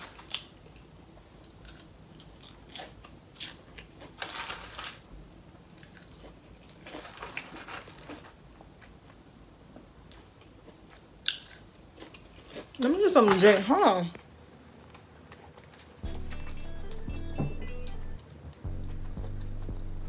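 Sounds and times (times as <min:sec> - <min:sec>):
person crunching and chewing food: 0:00.0 - 0:13.0, 0:14.2 - 0:20.0.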